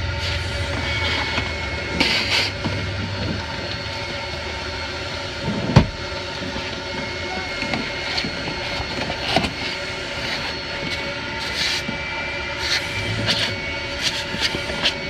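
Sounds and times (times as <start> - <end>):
car wash rumble and hiss: 0.0 - 15.0.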